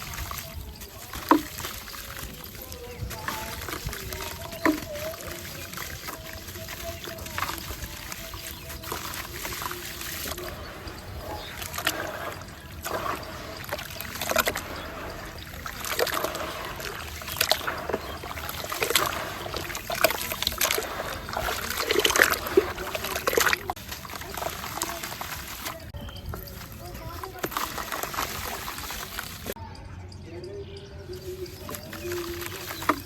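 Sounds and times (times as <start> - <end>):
concrete crumbling into water: 0.0 - 29.6
small splashes and trickling: 0.0 - 29.6, 31.2 - 33.0.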